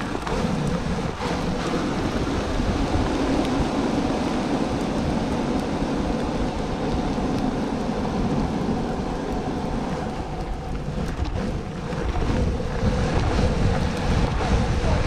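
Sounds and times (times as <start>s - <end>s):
longboard wheels rolling on pavement: 0.0s - 15.0s
wind buffeting microphone: 0.0s - 15.0s.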